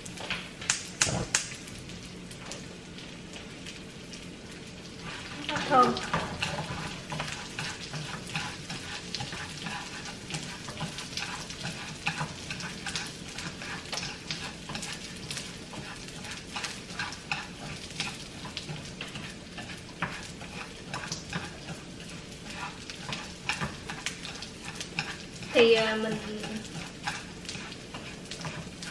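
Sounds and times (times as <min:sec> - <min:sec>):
rice sizzling in a pan: 0:00.0 - 0:28.9
wooden utensil scraping pan: 0:05.0 - 0:28.9.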